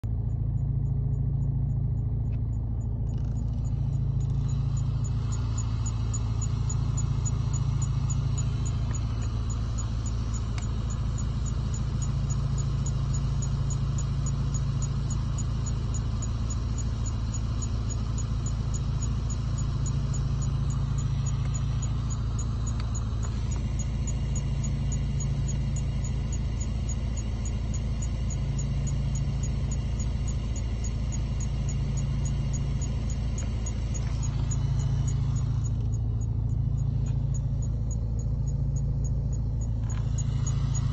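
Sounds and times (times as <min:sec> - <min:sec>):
car engine humming: 0:00.0 - 0:40.9.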